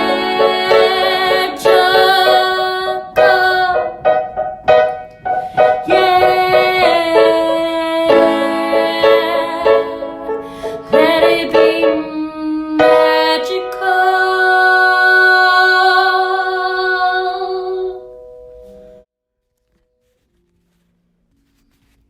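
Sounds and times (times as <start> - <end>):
solo piano music: 0.0 - 19.1.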